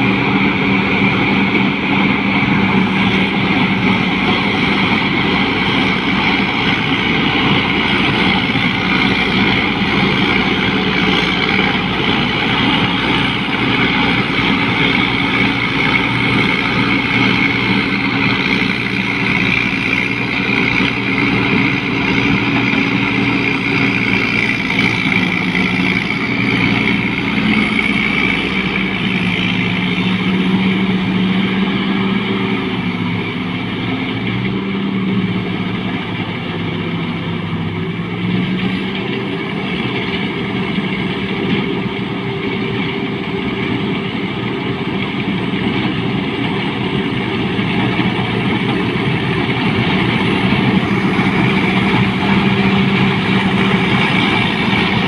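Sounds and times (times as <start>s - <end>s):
combine harvester engine drone: 0.0s - 55.0s
machinery whirring: 0.0s - 55.0s.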